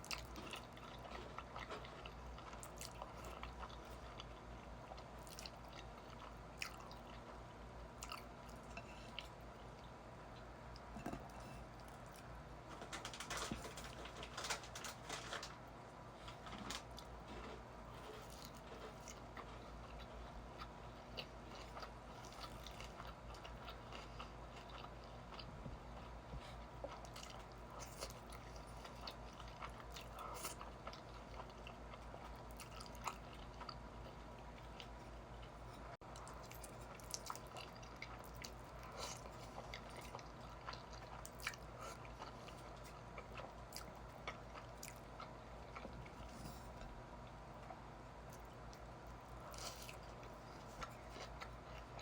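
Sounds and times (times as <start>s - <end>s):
person chewing food: 0.0s - 15.5s, 16.2s - 52.0s
faint low hum: 0.0s - 52.0s.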